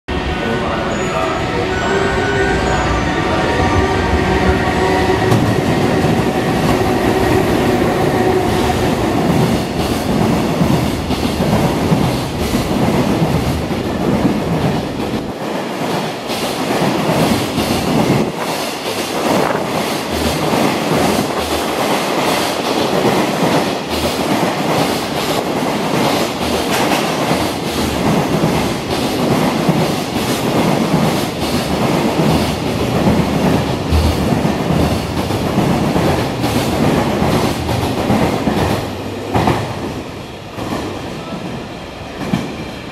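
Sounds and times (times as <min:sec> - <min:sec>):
train rolling rumble: 0:00.1 - 0:42.9.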